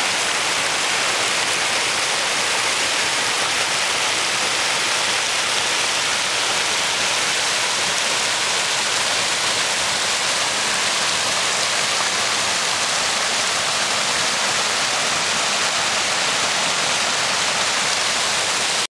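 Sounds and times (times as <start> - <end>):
rushing creek water: 0.0 - 18.9.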